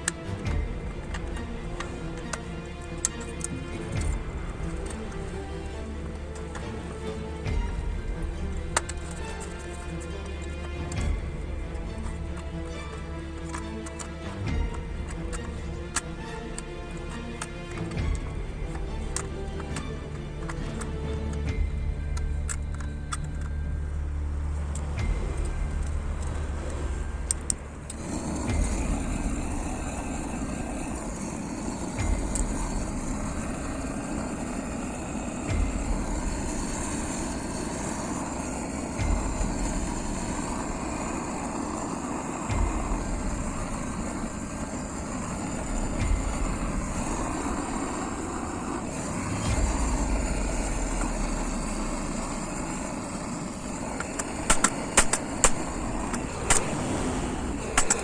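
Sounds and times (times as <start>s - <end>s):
steady rushing noise: 0.0s - 58.0s.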